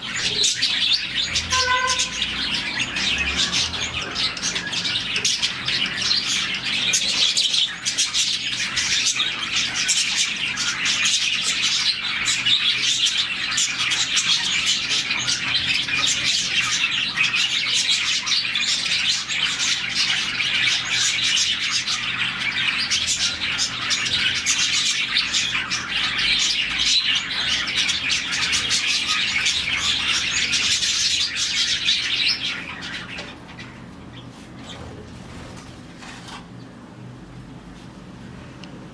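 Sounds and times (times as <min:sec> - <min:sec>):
budgies chirping: 0:00.0 - 0:36.9.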